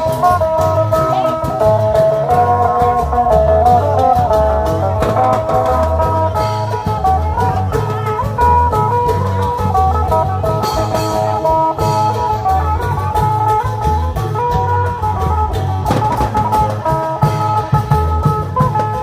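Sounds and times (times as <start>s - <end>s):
plucked string melody: 0.0s - 19.0s
pulsing drum beat: 0.0s - 19.0s.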